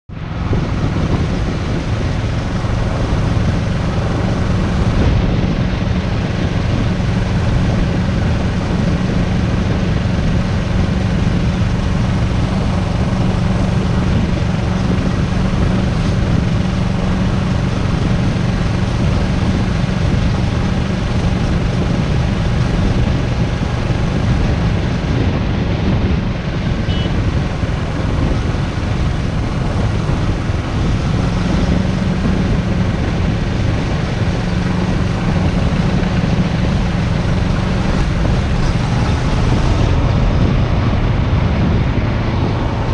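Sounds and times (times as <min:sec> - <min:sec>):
motorcycle engine hum: 0:00.1 - 0:42.9
wind rushing over microphone: 0:00.1 - 0:42.9.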